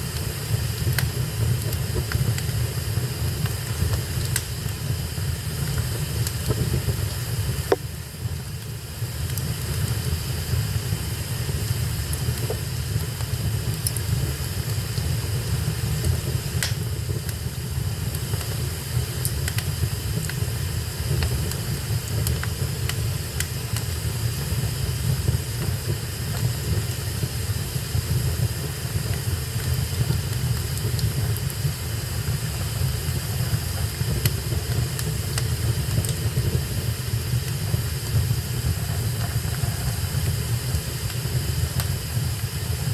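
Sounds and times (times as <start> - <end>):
fire crackling and popping: 0.0 - 42.9
fire rumbling and hissing: 0.0 - 42.9.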